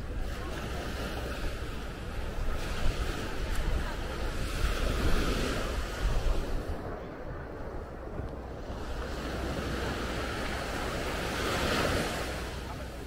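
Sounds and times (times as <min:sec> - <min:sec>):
surf breaking on a beach: 0:00.0 - 0:13.0
wind rumbling on microphone: 0:00.0 - 0:13.0.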